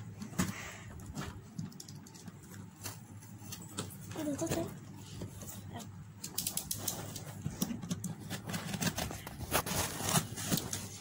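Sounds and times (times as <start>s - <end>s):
tape and cardboard crinkling: 0.0s - 11.0s.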